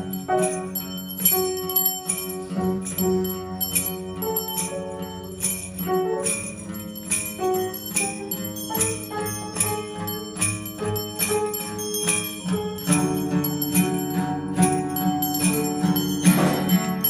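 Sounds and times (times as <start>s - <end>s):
small high church bells chiming: 0.0s - 17.0s.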